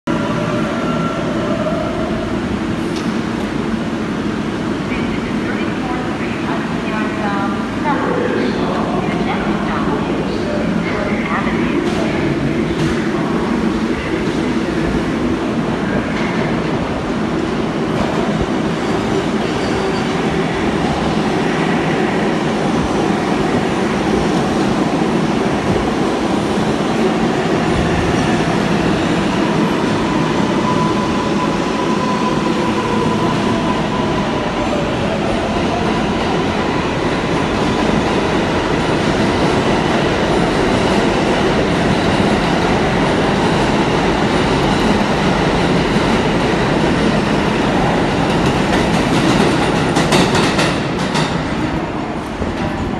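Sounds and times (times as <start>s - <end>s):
subway train rumbling: 0.0s - 52.9s.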